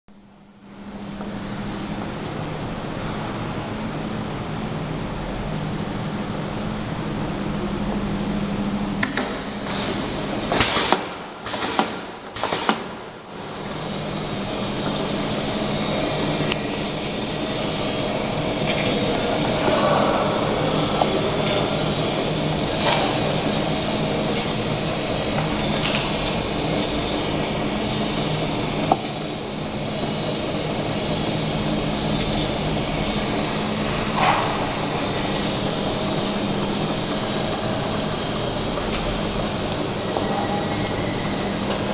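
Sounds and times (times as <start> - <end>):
labeling machine humming: 0.2 - 41.9.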